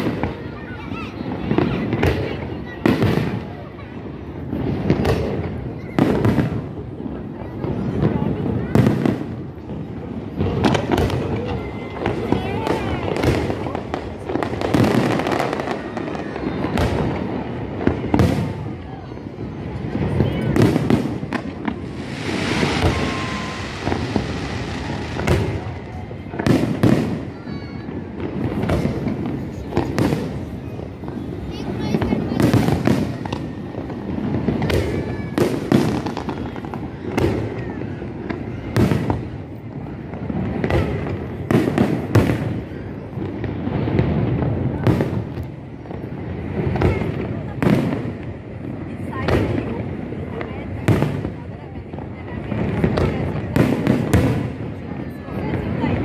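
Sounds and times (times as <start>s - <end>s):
fireworks bangs: 0.0s - 56.0s
fireworks crackling: 0.0s - 56.0s.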